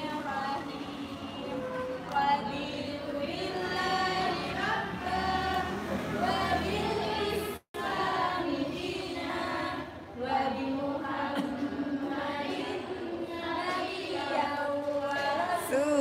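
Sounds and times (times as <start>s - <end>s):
voices chanting a prayer: 0.0s - 16.0s.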